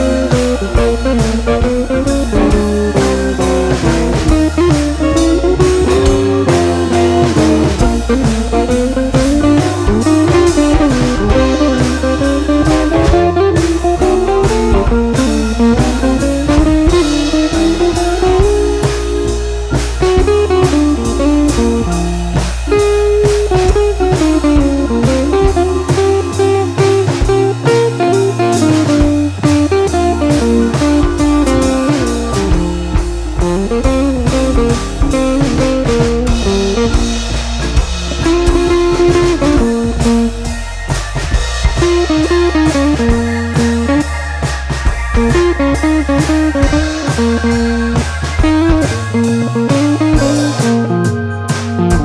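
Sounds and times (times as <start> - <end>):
drums with steady beat: 0.0 - 52.0
guitar melody: 0.0 - 52.0.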